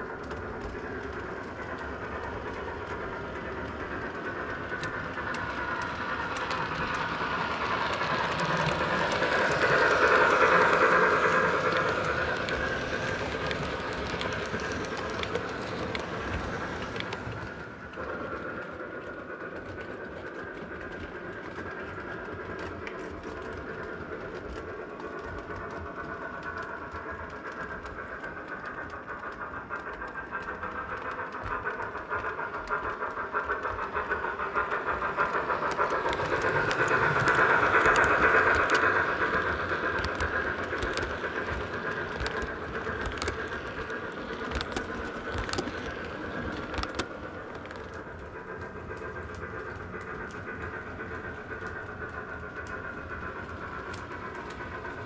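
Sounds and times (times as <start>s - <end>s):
clicking rail joints: 0.0s - 55.0s
electronic steam chuffing: 0.0s - 55.0s
rumble of train wheels: 0.0s - 55.0s.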